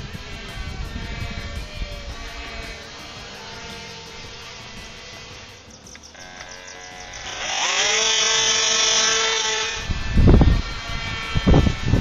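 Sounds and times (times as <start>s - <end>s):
wind buffeting microphone: 0.0s - 5.2s, 7.0s - 12.0s
electric propeller motors whining: 0.0s - 12.0s.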